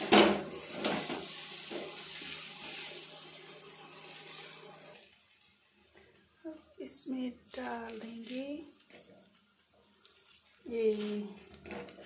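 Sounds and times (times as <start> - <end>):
pancake sizzling on hot griddle: 0.0 - 12.0.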